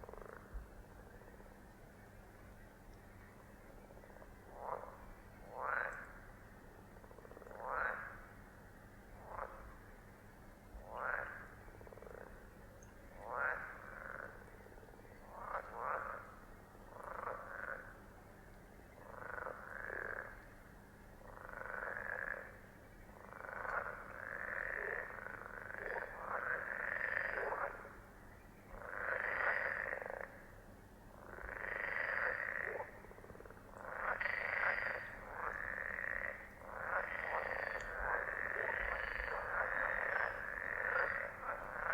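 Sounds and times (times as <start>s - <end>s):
frogs croaking: 0.0s - 41.9s.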